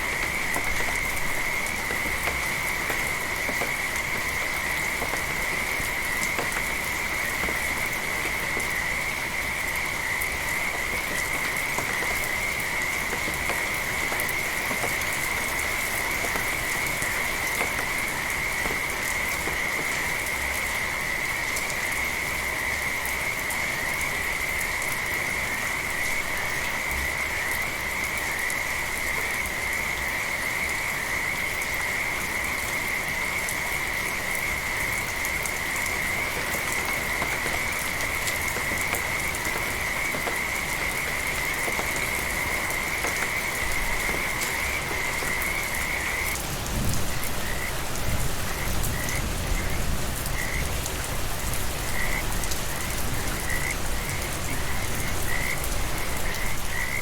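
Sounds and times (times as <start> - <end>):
light rain hiss: 0.0 - 57.0
frogs calling: 0.1 - 57.0.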